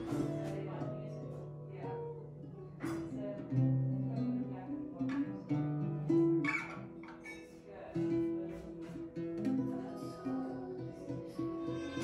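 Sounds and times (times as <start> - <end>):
classical guitar melody: 0.0 - 12.0.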